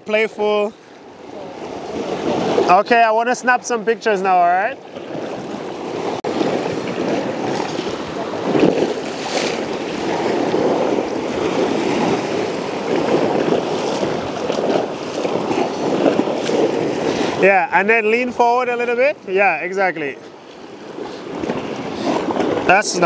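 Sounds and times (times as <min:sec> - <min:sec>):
sea waves splashing against rock: 0:00.4 - 0:23.0.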